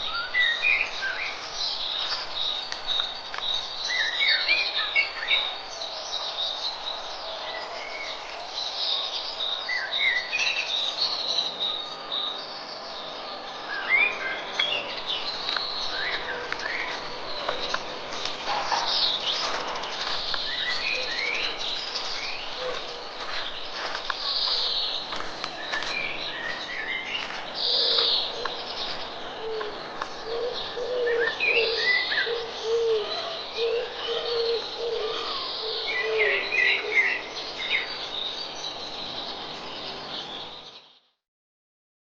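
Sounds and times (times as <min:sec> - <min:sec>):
wild birds singing: 0:00.0 - 0:41.2.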